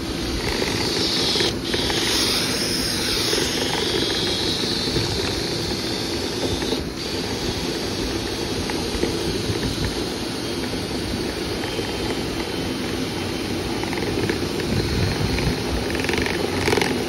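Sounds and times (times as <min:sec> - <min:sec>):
motor rumble with rushing air: 0:00.0 - 0:17.0.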